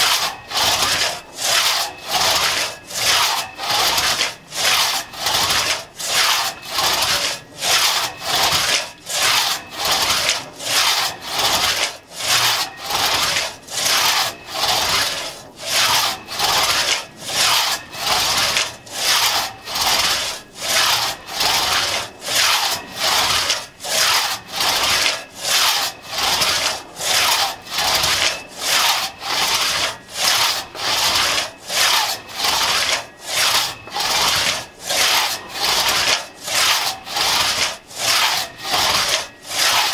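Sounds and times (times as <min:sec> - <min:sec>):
hand saw cutting log: 0:00.0 - 0:39.9.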